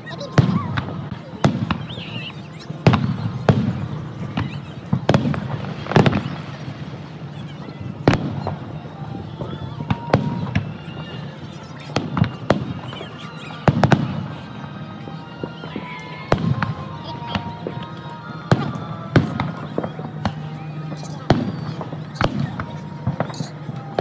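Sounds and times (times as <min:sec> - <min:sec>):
firework bangs with rumbling echo: 0:00.3 - 0:11.3, 0:11.9 - 0:14.4, 0:15.4 - 0:17.8, 0:18.5 - 0:24.0.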